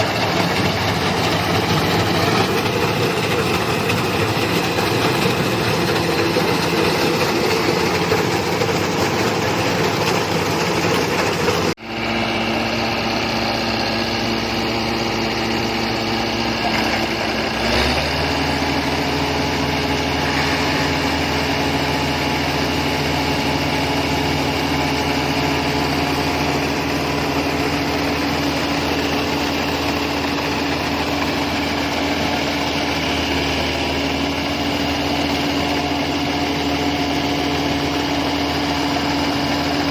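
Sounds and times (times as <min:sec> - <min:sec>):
combine harvester engine: 0:00.0 - 0:39.9.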